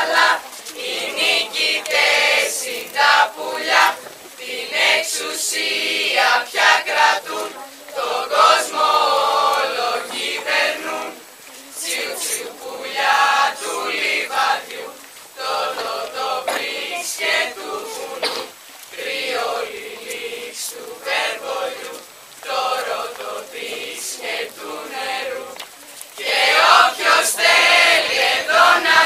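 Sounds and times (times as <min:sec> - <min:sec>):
chorus of voices chanting: 0:00.0 - 0:25.6, 0:26.2 - 0:29.0.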